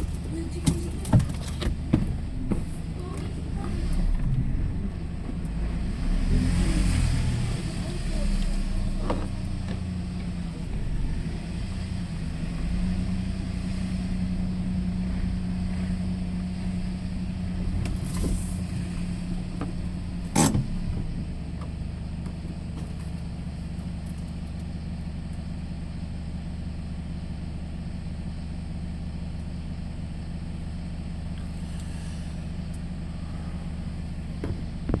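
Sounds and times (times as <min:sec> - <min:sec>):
vehicle engine humming: 0:00.0 - 0:35.0.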